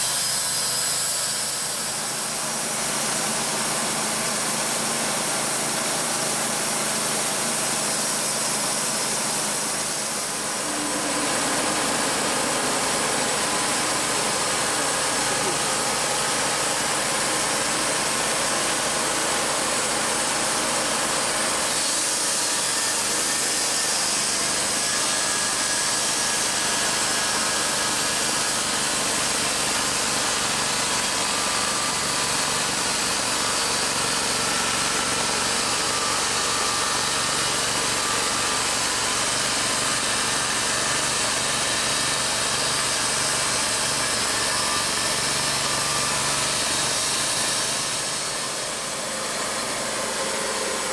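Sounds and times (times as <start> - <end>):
bandsaw mill sawing log: 0.0 - 50.9.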